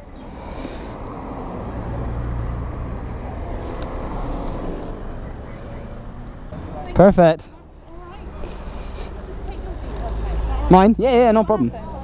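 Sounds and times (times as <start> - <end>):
car driving past: 0.0 - 11.0.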